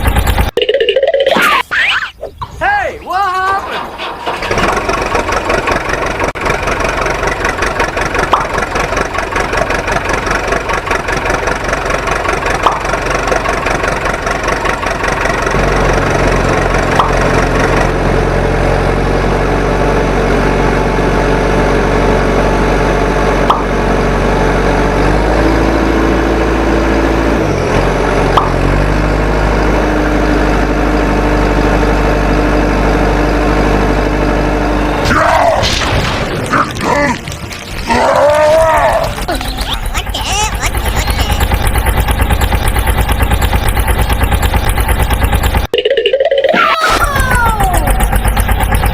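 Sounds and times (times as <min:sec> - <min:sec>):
heavy diesel engine running: 0:00.0 - 0:00.6, 0:03.3 - 0:45.8, 0:47.0 - 0:48.9.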